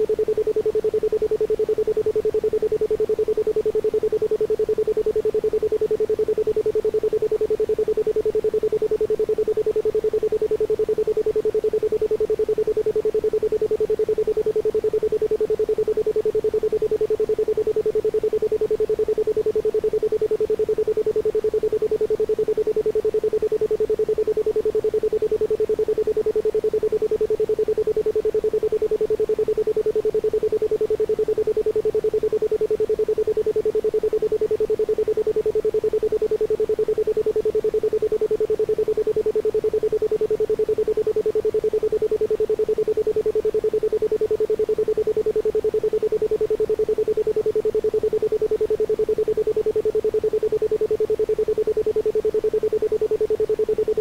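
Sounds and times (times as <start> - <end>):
pulsing pure tone: 0.0 - 54.0.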